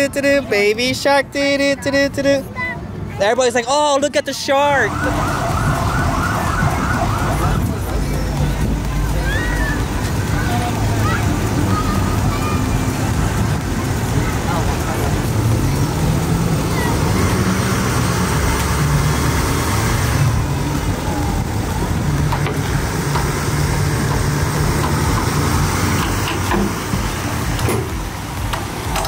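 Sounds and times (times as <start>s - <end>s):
diesel truck engine under load: 5.0s - 29.0s.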